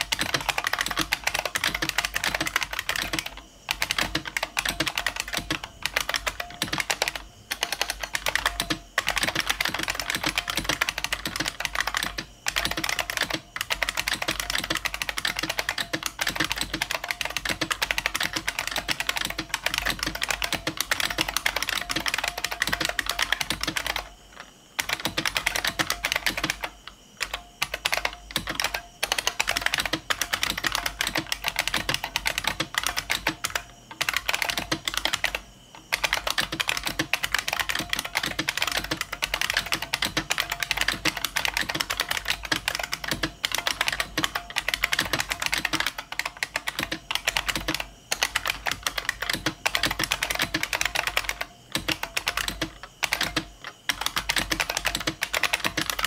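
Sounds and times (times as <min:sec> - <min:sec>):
fast clicky keyboard typing: 0:00.0 - 0:56.0.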